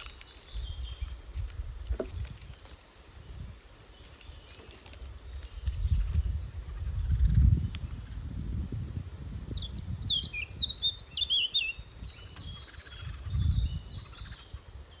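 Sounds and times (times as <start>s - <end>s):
songbird twittering: 0.0s - 8.4s, 9.5s - 15.0s.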